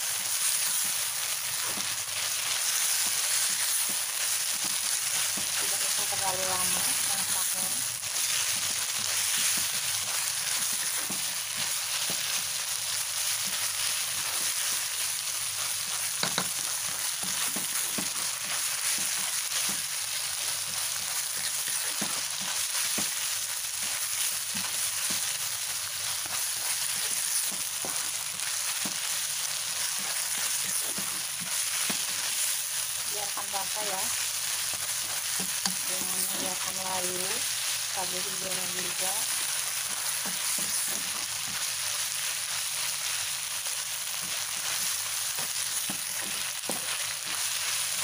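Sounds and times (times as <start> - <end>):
food sizzling in hot oil: 0.0 - 48.0
spatula scraping and tapping wok: 0.6 - 12.5, 15.8 - 32.5, 33.4 - 37.2, 38.2 - 42.5, 44.1 - 48.0.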